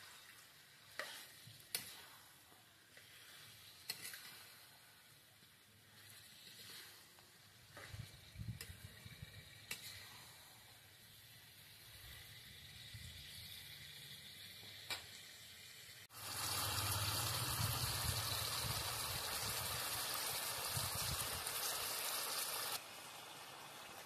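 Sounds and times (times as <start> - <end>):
chicken frying in oil: 0.0 - 24.0.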